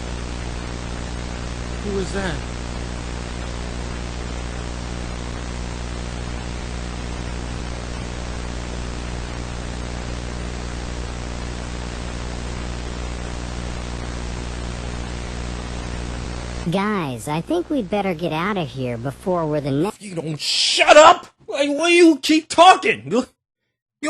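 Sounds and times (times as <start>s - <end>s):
static hiss: 0.0s - 19.8s
constant low hum: 0.0s - 20.2s.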